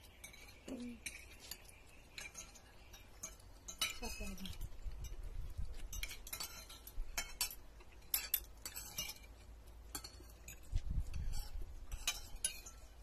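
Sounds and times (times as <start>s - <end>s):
cutlery clinking on plates: 0.0s - 13.0s.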